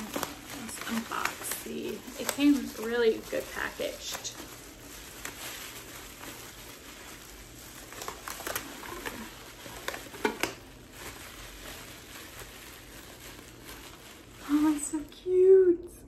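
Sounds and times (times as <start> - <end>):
bubble wrap crinkling: 0.0 - 15.9.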